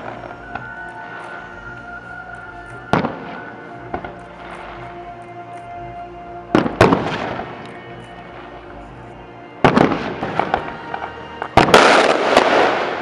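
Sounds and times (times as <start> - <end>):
fireworks crackling: 0.0 - 13.0
music playing: 0.0 - 13.0.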